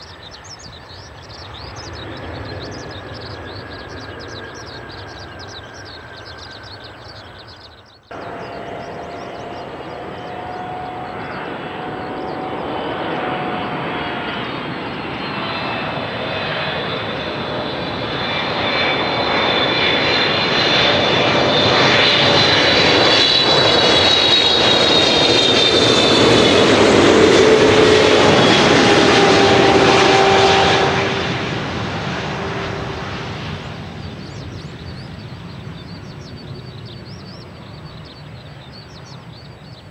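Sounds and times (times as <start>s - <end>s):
faint jet sound: 0.0s - 39.9s
jet airliner roar passing: 0.0s - 39.9s
high jet whine: 0.2s - 39.6s.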